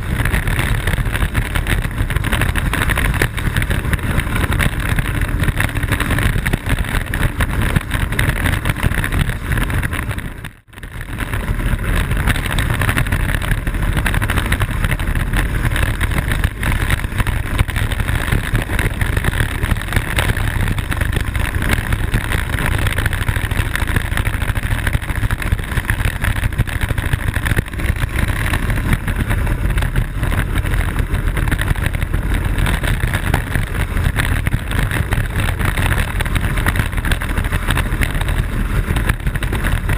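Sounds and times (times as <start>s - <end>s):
wheels rolling on pavement: 0.0s - 39.9s
wind rushing over microphone: 0.0s - 39.9s.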